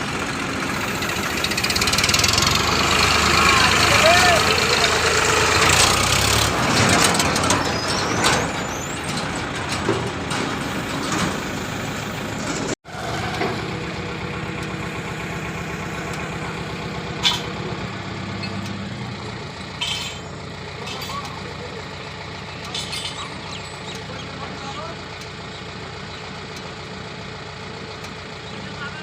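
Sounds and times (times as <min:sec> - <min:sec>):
diesel engine clattering: 0:00.0 - 0:29.0.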